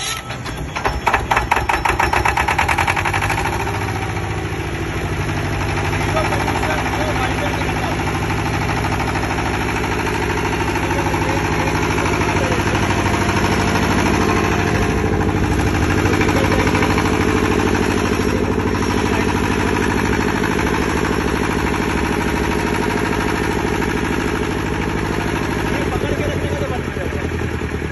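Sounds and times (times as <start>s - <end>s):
diesel generator running: 0.0s - 27.9s.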